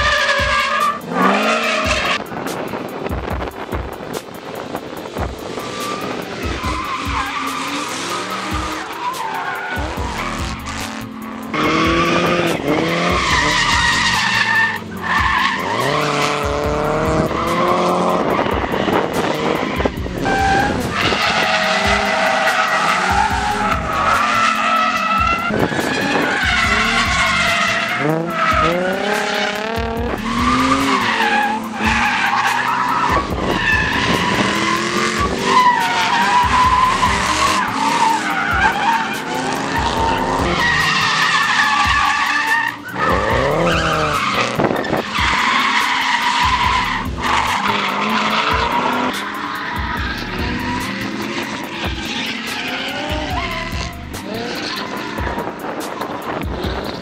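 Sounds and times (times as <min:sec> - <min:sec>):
car engines revving: 0:00.0 - 0:57.0
tires squealing: 0:00.0 - 0:57.0.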